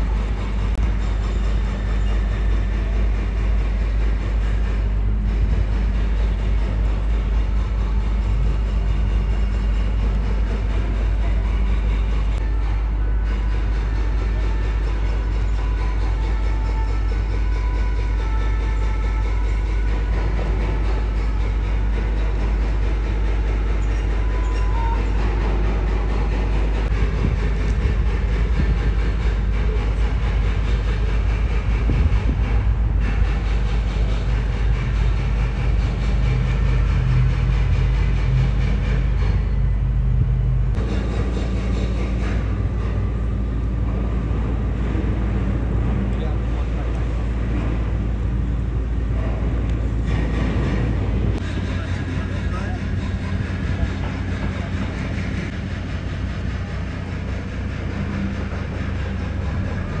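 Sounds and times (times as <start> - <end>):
boat engines rumbling: 0.0 - 60.0.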